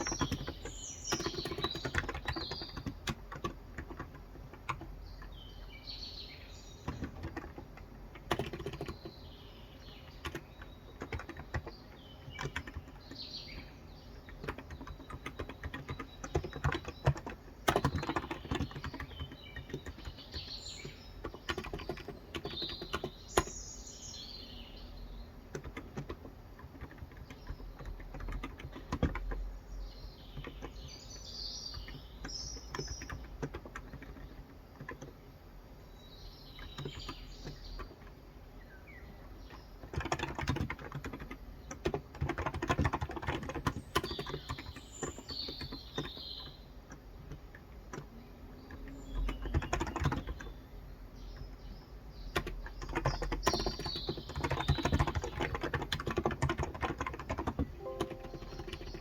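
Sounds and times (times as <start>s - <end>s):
soft keyboard keystrokes: 0.0s - 5.4s, 6.8s - 23.5s, 25.5s - 29.6s, 30.2s - 35.3s, 36.6s - 38.2s, 39.4s - 50.6s, 51.2s - 59.0s
birds chirping: 0.0s - 59.0s.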